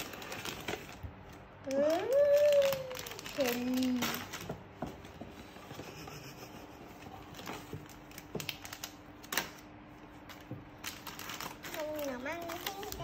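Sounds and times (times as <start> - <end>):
plastic packets and paper bag rustling: 0.0 - 6.1, 7.0 - 13.0.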